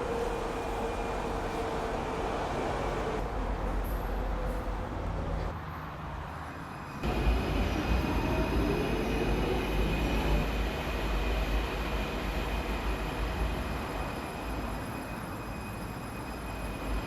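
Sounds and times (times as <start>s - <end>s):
metro train rumble: 0.0s - 17.0s
rising train whine: 0.0s - 17.0s.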